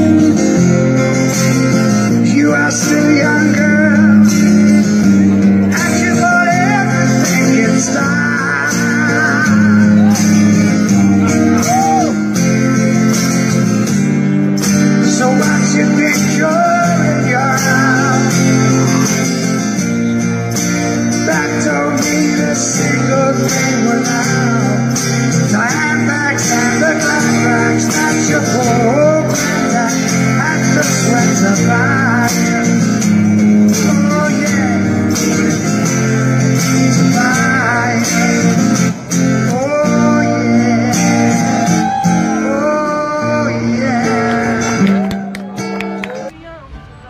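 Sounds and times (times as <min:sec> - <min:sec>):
guitar playing chords: 0:00.0 - 0:47.0.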